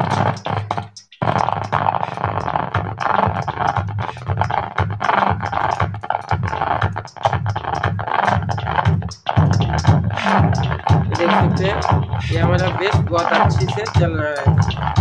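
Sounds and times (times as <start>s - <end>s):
music over speakers: 0.0s - 15.0s
rhythmic bass line: 0.0s - 15.0s.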